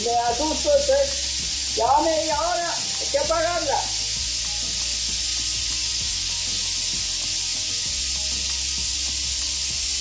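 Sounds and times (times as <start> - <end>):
pressure cooker hissing steam: 0.0 - 10.0.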